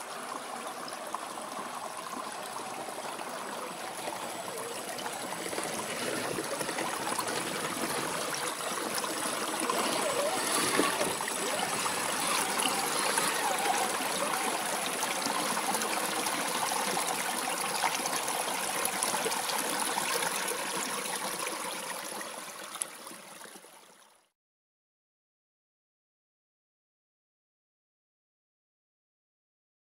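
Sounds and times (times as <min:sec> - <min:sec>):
rocky creek flowing: 0:00.0 - 0:24.2.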